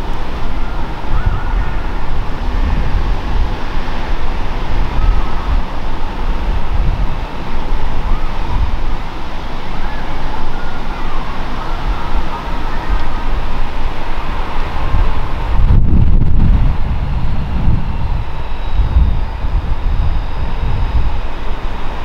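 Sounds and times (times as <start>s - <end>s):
faint high gliding tones: 0.0s - 22.0s
wind buffeting microphone: 0.0s - 22.0s.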